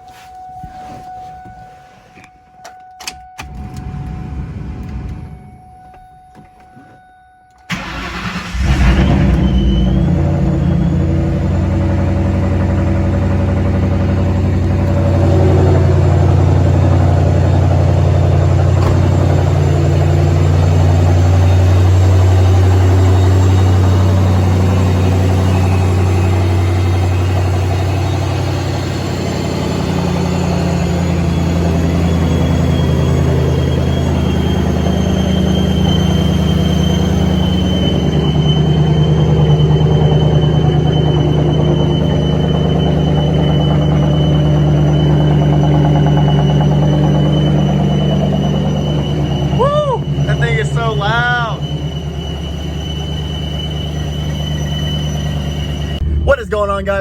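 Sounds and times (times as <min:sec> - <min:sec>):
car engine starting and idling: 0:00.0 - 0:57.0
high supercharger whine: 0:03.4 - 0:57.0.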